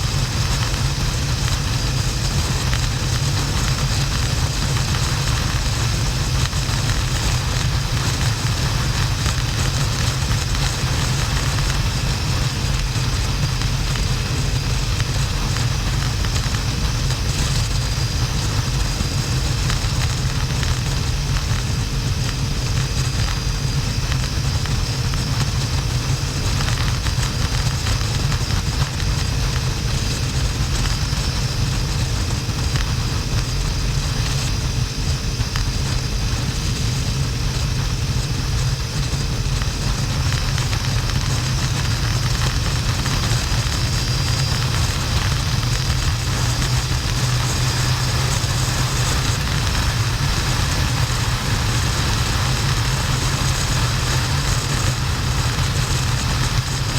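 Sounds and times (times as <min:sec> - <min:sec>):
motorcycle engine running: 0:00.0 - 0:56.9
wind noise: 0:00.0 - 0:56.9.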